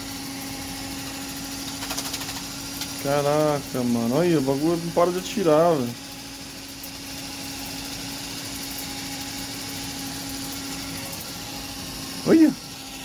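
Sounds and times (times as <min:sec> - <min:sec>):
water pistol motor humming: 0:00.0 - 0:13.0.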